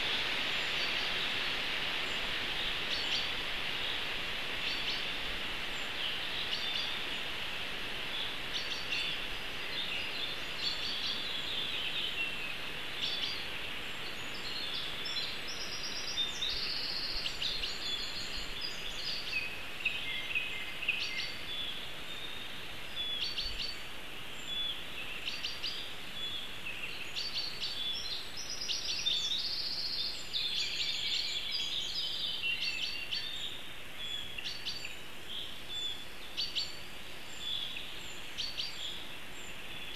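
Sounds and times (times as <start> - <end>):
songbirds singing and chirping: 0.0 - 39.9
steady background hiss: 0.0 - 39.9.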